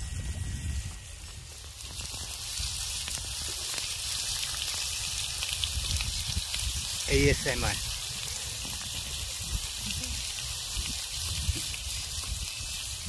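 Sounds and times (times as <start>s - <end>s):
meat sizzling on griddle: 0.0s - 13.0s.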